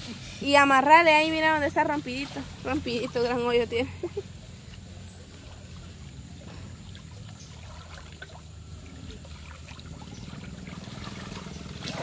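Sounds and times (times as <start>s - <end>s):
river water flowing: 0.0s - 12.0s
small splashes: 2.1s - 12.0s.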